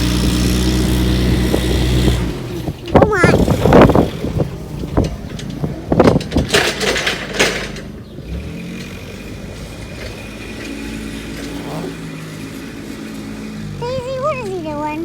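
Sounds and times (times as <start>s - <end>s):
vehicle engine running at low revs: 0.0s - 6.8s, 7.6s - 15.0s.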